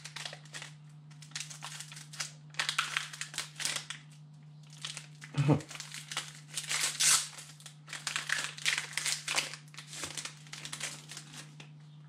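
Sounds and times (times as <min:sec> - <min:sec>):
foil wrapper crinkling: 0:00.0 - 0:11.8
faint low hum: 0:00.0 - 0:12.0.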